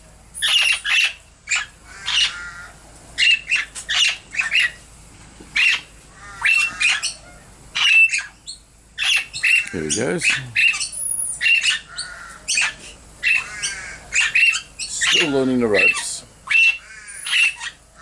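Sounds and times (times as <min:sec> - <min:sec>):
parrots squawking: 0:00.4 - 0:04.8, 0:05.5 - 0:18.0.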